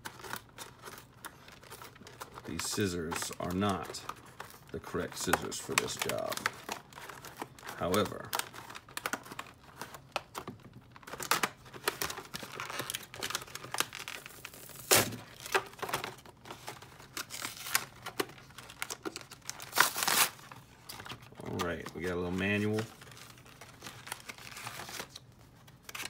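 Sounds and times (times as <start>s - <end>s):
scissors cutting packaging: 0.0s - 25.2s, 25.8s - 26.0s
packaging ripping and crinkling: 0.0s - 26.0s.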